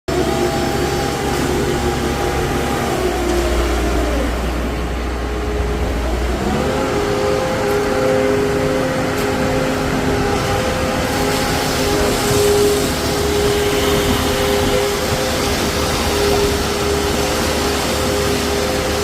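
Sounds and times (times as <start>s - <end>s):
concrete mixer engine running: 0.1s - 19.0s.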